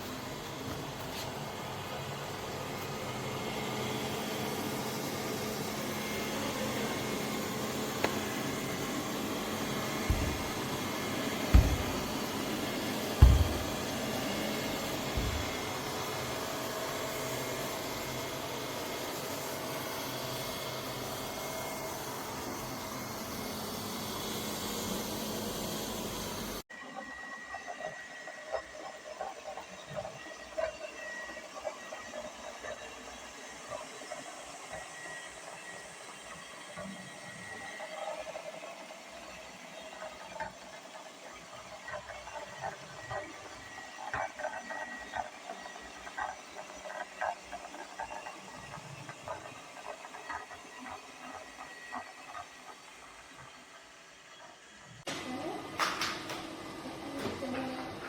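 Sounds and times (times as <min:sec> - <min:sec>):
robot vacuum cleaner whirring: 0:00.0 - 0:55.8.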